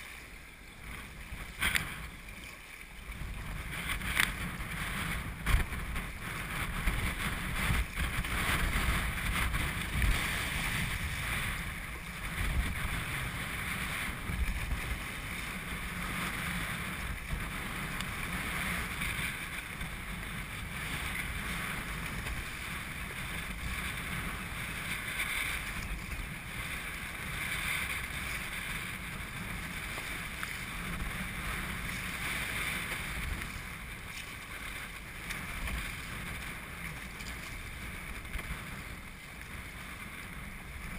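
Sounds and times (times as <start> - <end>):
choppy water splashing: 0.0 - 40.9
paddle splashes: 0.0 - 40.9
wind rumbling on microphone: 0.0 - 40.9.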